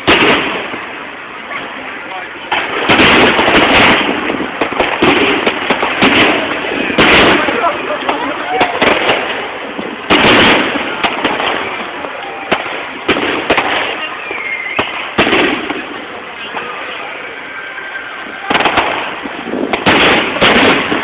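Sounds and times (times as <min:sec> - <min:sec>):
fireworks crackling: 0:00.0 - 0:21.0
heavy firework bursts: 0:00.0 - 0:21.0.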